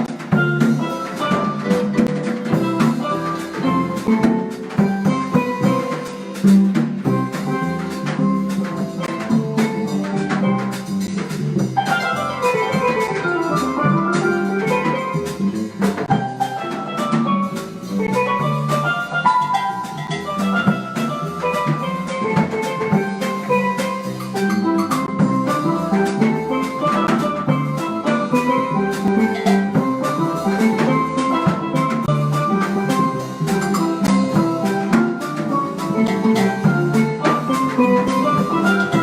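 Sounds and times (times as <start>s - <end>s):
drum hits: 0.0s - 39.0s.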